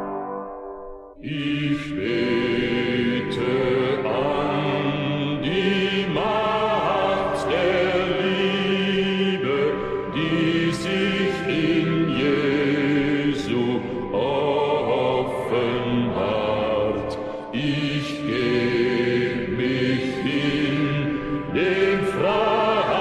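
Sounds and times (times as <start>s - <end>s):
several voices singing slowly: 1.2s - 23.0s.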